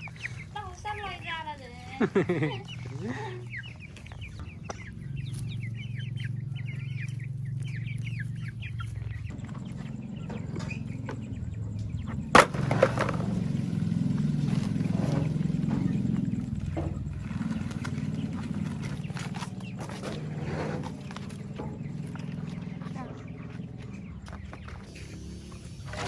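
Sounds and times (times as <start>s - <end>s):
chicken squawk: 0.0s - 25.6s
chicks cheeping: 0.0s - 26.0s
steady low hum: 0.0s - 26.0s.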